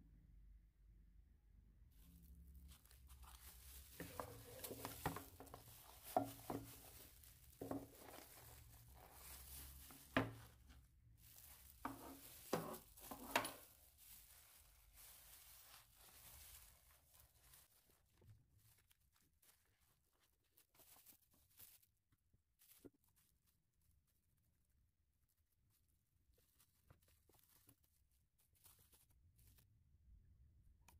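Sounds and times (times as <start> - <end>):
paper and plastic wrap crinkling: 2.0 - 29.6.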